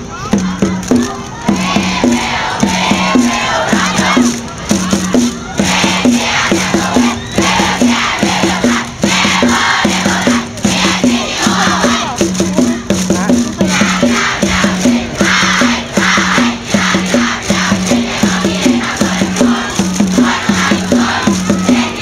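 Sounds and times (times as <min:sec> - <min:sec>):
crowd chanting a cheer: 0:00.0 - 0:22.0.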